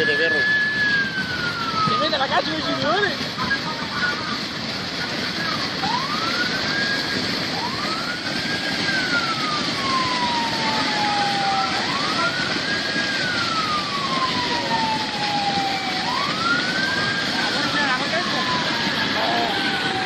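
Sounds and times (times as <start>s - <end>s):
floodwater rushing: 0.0s - 20.0s
siren wailing: 0.0s - 20.0s.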